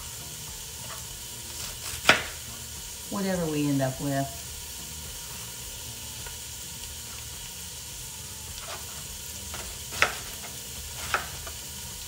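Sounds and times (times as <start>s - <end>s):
bacon sizzling in a frying pan: 0.0s - 12.0s.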